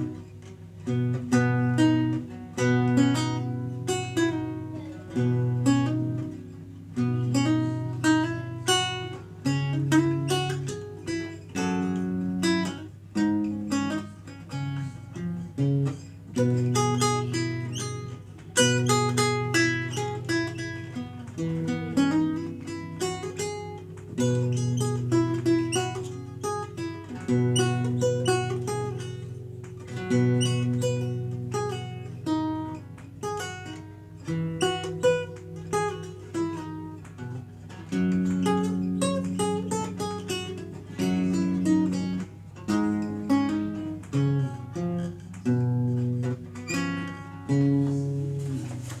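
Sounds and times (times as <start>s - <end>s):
lute playing: 0.0s - 49.0s.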